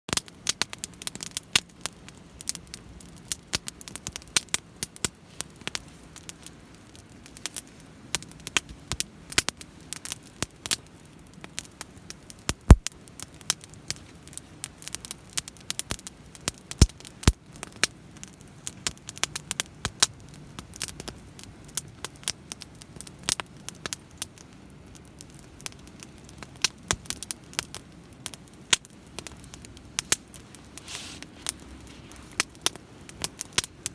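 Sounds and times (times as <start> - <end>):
campfire crackling and popping: 0.1 - 33.9.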